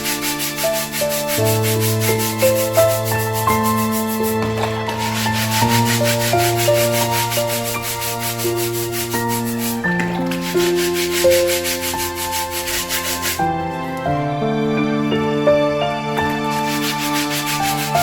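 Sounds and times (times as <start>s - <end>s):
stiff brush scrubbing: 0.0s - 15.3s, 16.2s - 18.0s
calm instrumental music: 0.0s - 18.0s.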